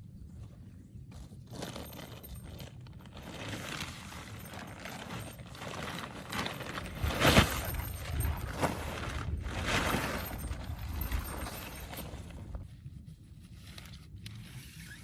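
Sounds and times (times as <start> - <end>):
wind buffeting a tent: 0.0 - 15.0.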